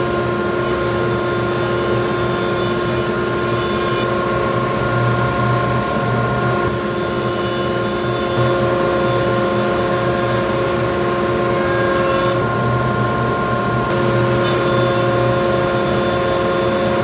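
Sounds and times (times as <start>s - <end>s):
jointer machine hum: 0.0s - 17.0s.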